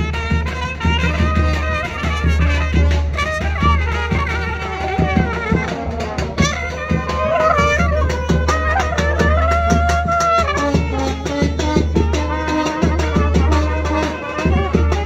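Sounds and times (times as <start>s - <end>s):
steady drum beat: 0.0s - 15.0s
trumpets playing melody: 0.0s - 15.0s.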